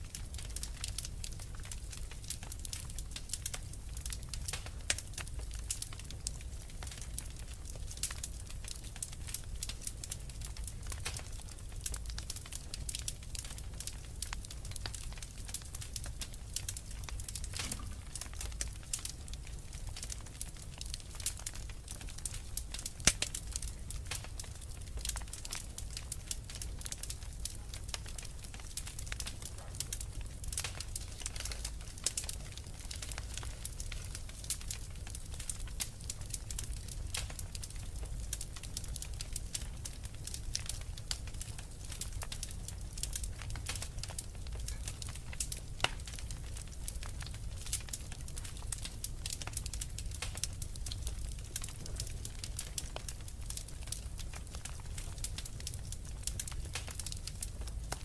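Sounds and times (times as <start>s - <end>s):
fire pops: 0.0s - 58.0s
wood fire crackling: 0.0s - 58.0s.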